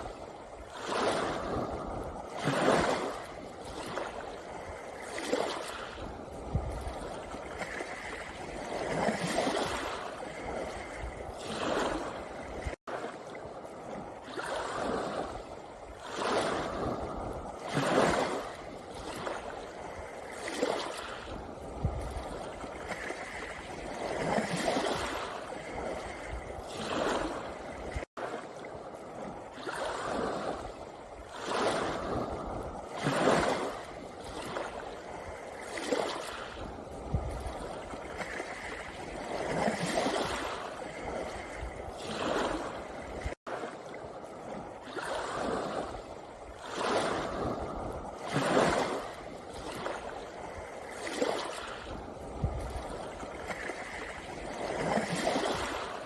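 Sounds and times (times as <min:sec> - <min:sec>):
waves washing onto pebble beach: 0:00.0 - 0:56.0.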